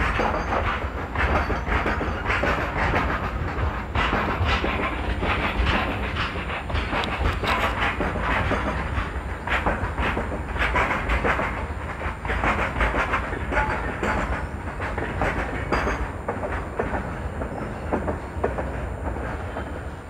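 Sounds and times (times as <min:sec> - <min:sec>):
train rumbling past: 0:00.0 - 0:20.0
wheels clattering over rail joints: 0:00.0 - 0:20.0.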